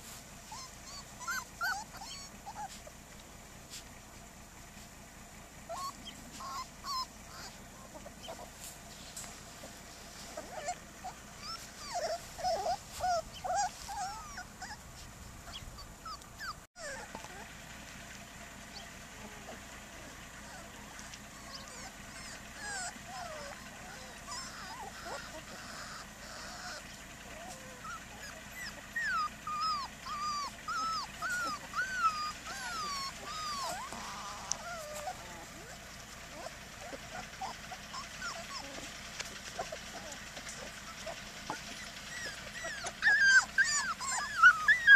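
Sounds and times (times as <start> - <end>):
puppies whining and yelping: 0.0 - 3.9, 5.4 - 17.6, 18.6 - 44.9.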